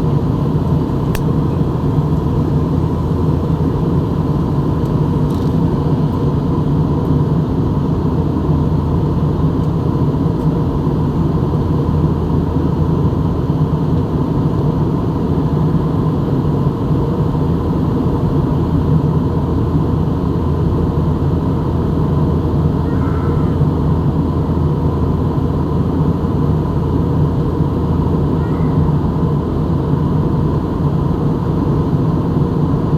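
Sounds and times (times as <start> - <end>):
airliner cabin drone: 0.0 - 32.9
faint constant whine: 0.0 - 32.9.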